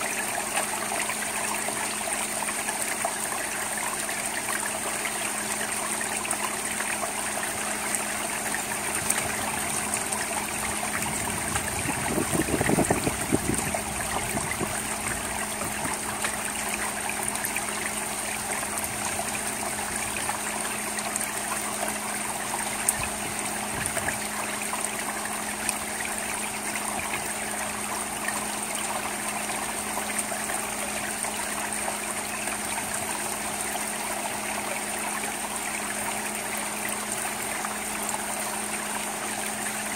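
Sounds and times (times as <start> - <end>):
low rush of water: 0.0 - 39.9.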